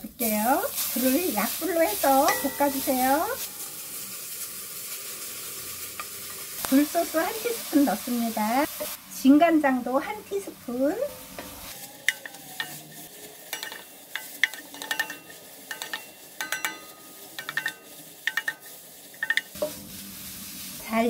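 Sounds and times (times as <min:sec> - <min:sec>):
faint sizzle in a wok: 0:00.0 - 0:21.0.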